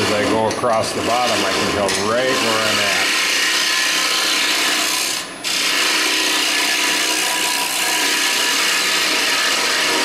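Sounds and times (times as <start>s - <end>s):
lathe tool scraping wood: 0.0s - 10.0s.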